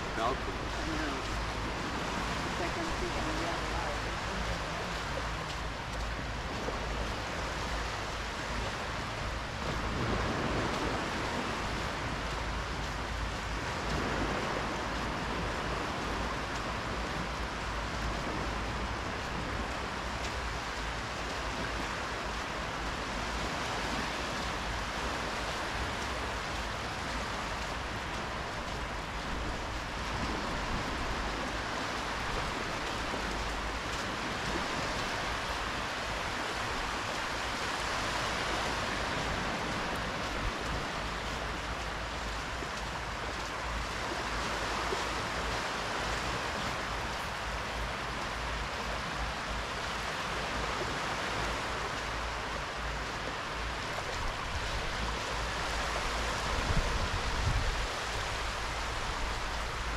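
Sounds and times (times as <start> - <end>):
small waves lapping on sand: 0.0 - 59.9.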